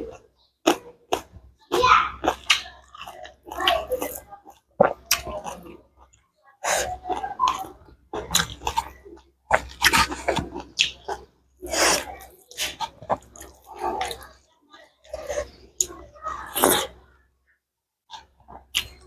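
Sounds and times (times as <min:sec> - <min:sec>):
wet chewing and mouth smacking: 0:00.0 - 0:14.4, 0:15.0 - 0:17.0, 0:18.1 - 0:19.0.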